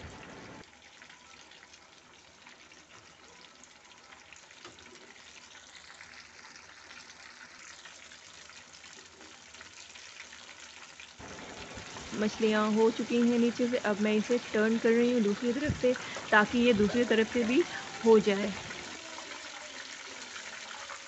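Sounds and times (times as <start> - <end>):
fish deep-frying in oil: 0.0 - 21.0.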